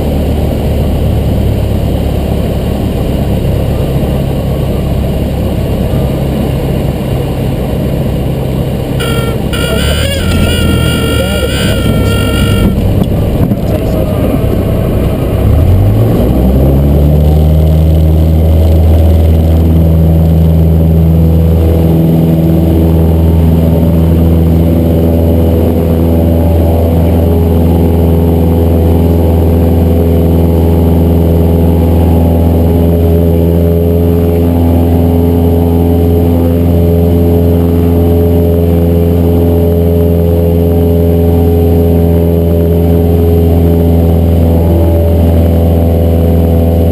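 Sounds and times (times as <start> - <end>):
propeller plane engine: 0.0 - 46.9.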